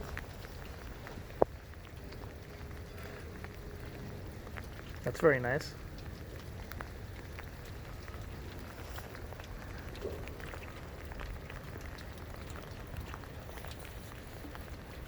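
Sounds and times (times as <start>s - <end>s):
raindrop ticks: 0.0s - 15.0s
steady rainfall: 0.0s - 15.0s.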